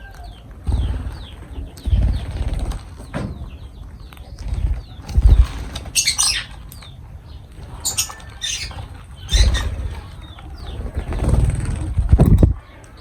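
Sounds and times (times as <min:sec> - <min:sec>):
birds chirping and squawking: 0:00.0 - 0:13.0
wings flapping and rustling: 0:00.1 - 0:12.6.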